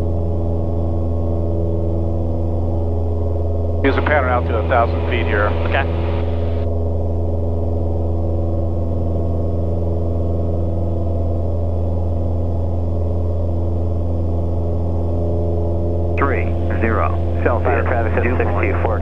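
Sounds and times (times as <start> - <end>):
light aircraft engine droning: 0.0 - 19.0.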